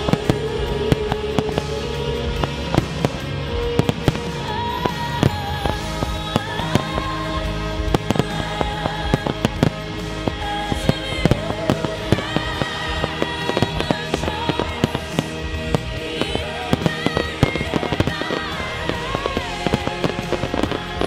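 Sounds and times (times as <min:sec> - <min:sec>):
fireworks bursting with sharp bangs: 0:00.0 - 0:21.0
music with sustained melody: 0:00.0 - 0:21.0.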